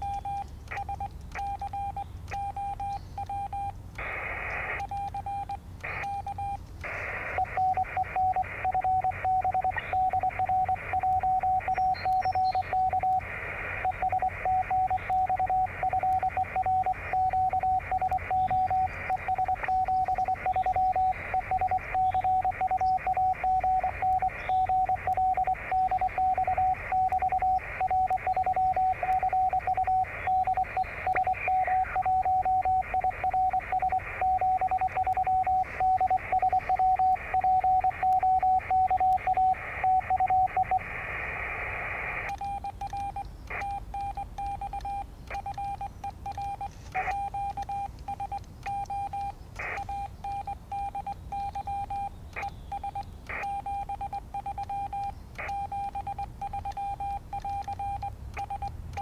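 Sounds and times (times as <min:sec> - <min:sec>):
morse code beeps: 0:00.0 - 0:59.0
receiver hiss: 0:00.0 - 0:59.0.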